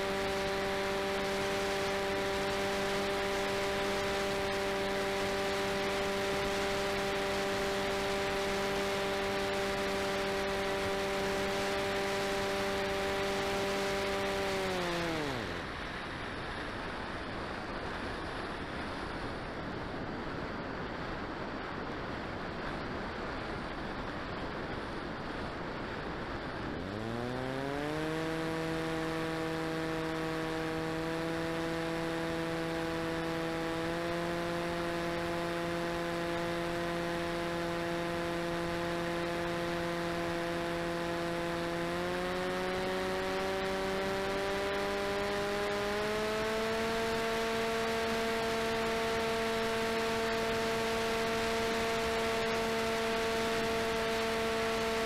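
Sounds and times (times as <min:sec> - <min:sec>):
electric motor and propeller whine: 0:00.0 - 0:21.2, 0:24.3 - 0:55.0.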